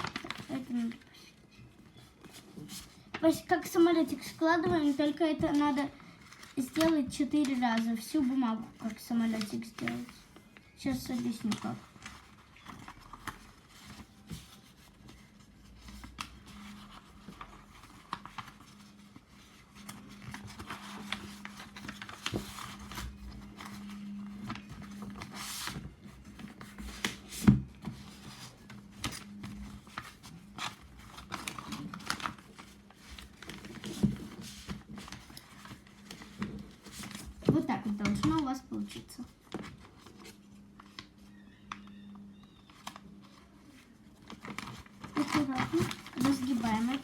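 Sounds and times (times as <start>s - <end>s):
paper folding and rustling: 0.0s - 47.0s.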